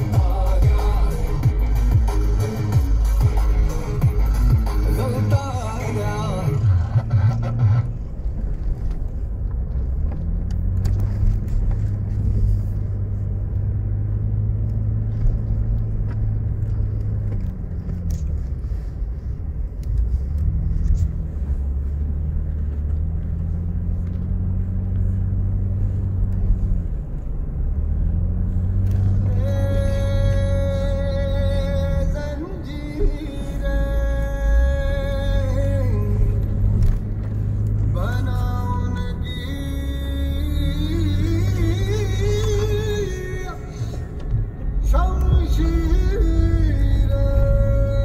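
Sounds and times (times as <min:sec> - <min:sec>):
car engine under load: 0:00.0 - 0:48.0
deep rumble: 0:00.0 - 0:48.0.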